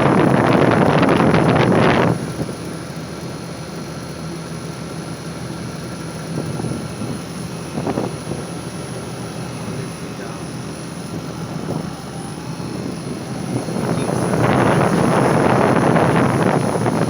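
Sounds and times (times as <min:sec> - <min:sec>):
air conditioner compressor and fan drone: 0:00.0 - 0:17.0
faint steady tones: 0:00.0 - 0:17.0.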